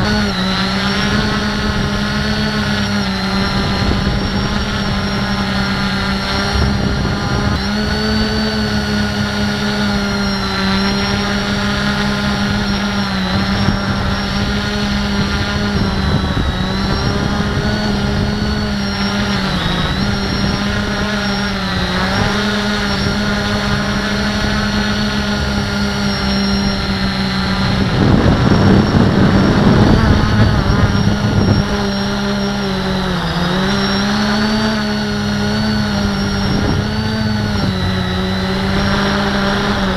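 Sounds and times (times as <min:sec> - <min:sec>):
drone motors droning: 0:00.0 - 0:39.9.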